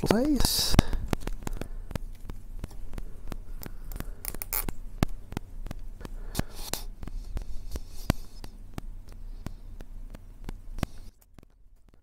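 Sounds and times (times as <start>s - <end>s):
small clicks and taps: 0.0s - 12.0s.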